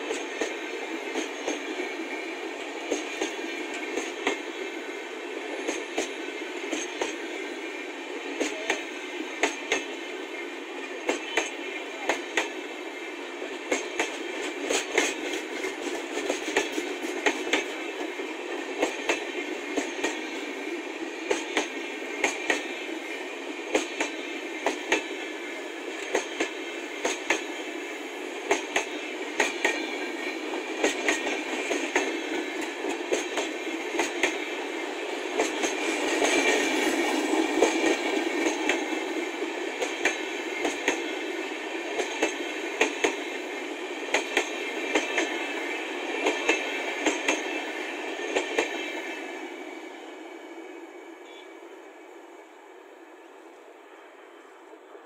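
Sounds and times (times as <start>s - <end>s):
train wheels clacking: 0.0s - 10.1s, 10.8s - 12.7s, 13.4s - 49.2s
train rolling noise: 0.0s - 55.0s.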